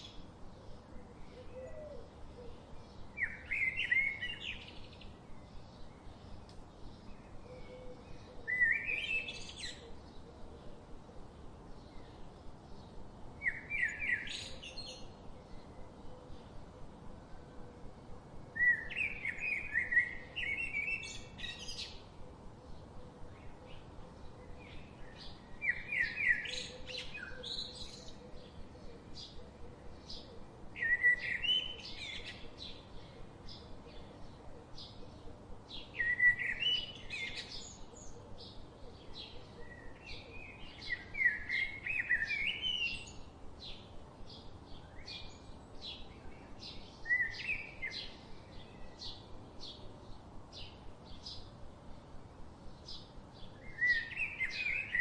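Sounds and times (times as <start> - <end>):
bird singing warbled phrases: 0.0 - 10.8, 11.8 - 17.0, 18.6 - 52.0, 52.7 - 55.0.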